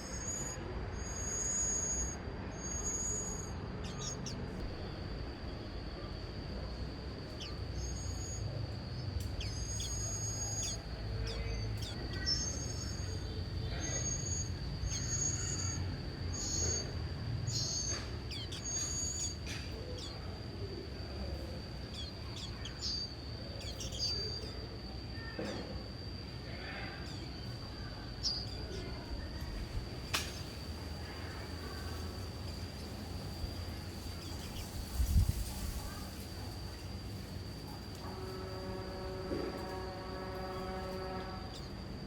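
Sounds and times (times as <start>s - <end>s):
small birds chirping: 0.0s - 38.1s, 40.3s - 42.0s
steady high-pitched whine: 0.0s - 42.0s.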